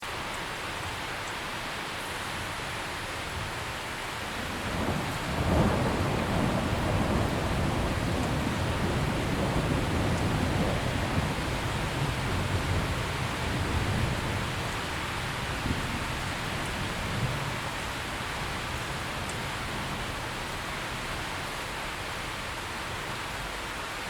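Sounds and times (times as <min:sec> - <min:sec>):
heavy rain hiss: 0:00.0 - 0:24.0
low rumble of thunder: 0:03.3 - 0:23.0.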